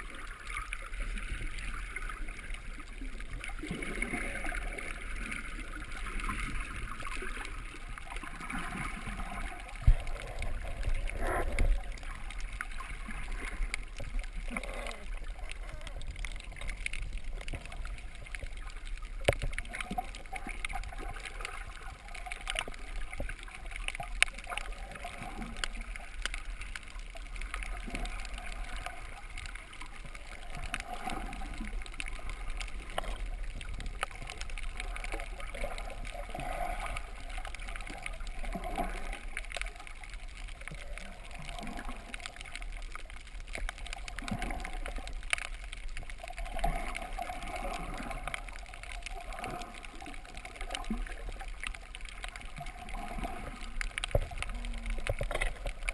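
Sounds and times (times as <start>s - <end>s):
faint crackling clicks: 0.0s - 55.9s
muffled underwater sloshing: 0.0s - 55.9s.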